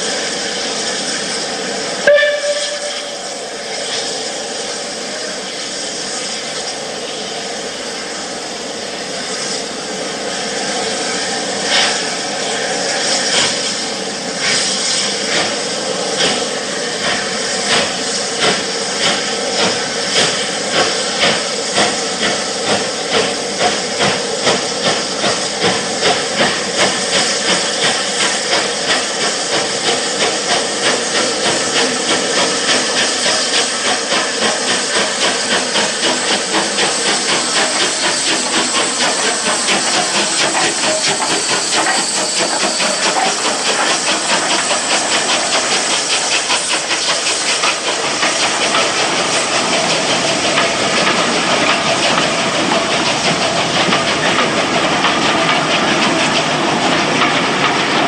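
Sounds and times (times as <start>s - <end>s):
steam hiss: 0.0s - 58.0s
steam locomotive exhaust beats: 0.0s - 58.0s.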